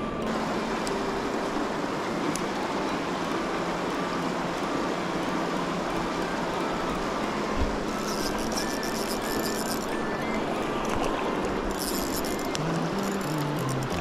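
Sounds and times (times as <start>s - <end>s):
river water rushing over gravel: 0.1s - 14.0s.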